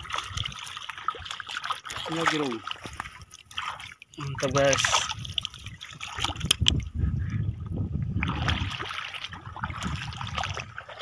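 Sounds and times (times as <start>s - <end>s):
shallow water splashing: 0.0s - 7.3s, 8.0s - 11.0s.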